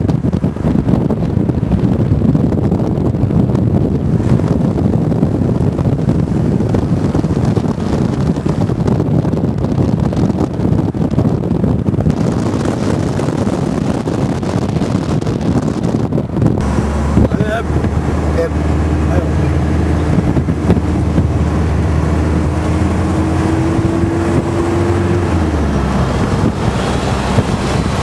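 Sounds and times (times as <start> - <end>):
car driving on road: 0.0 - 28.0
wind buffeting microphone: 0.0 - 28.0.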